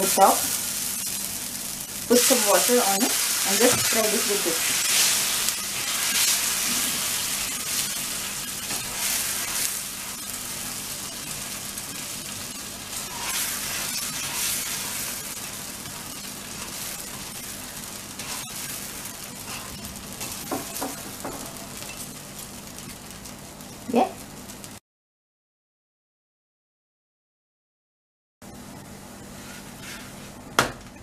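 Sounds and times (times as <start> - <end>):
batter sizzling in a hot pan: 0.0 - 24.8, 29.2 - 30.4.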